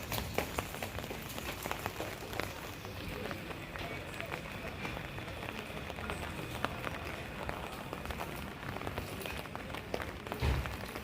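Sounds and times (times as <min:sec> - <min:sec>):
footsteps on wet street: 0:00.0 - 0:11.0
steady rain: 0:00.0 - 0:11.0.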